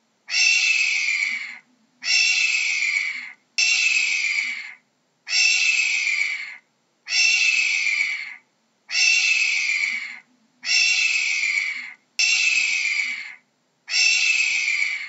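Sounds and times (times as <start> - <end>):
hawk screaming: 0.3 - 15.0.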